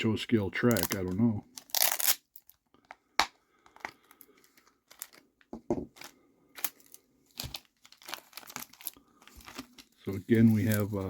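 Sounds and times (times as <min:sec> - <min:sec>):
plastic packaging crinkling: 0:00.7 - 0:02.6, 0:03.6 - 0:11.0.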